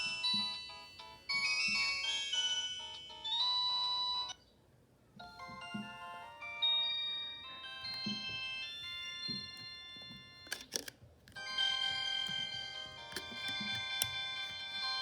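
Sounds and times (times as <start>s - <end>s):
mobile phone ringtone melody: 0.0s - 4.4s, 5.2s - 10.7s, 11.4s - 15.0s.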